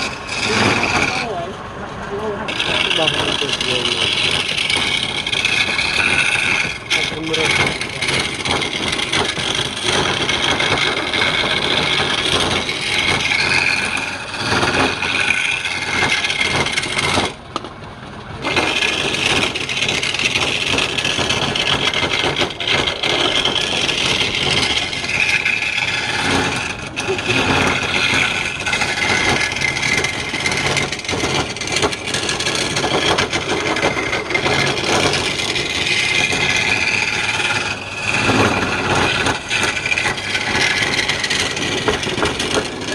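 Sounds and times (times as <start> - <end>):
wood lathe cutting wood: 0.0 - 17.6, 18.4 - 42.9.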